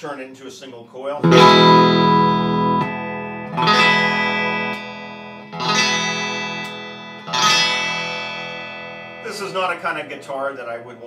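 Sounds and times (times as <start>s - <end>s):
electric guitar chords strummed: 1.2s - 10.3s.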